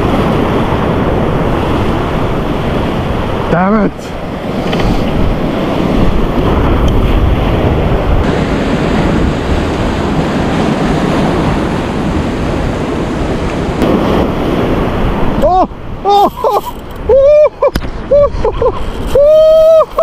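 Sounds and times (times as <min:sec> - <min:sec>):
surf breaking on rocks: 0:00.0 - 0:20.0
wind buffeting microphone: 0:00.0 - 0:20.0.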